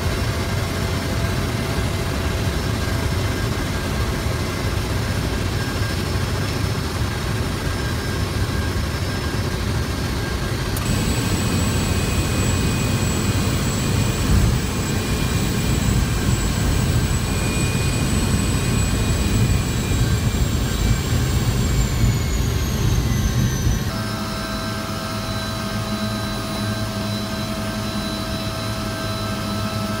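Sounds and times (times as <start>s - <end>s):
high engine whine: 0.0s - 30.0s
propeller engine running: 0.0s - 30.0s.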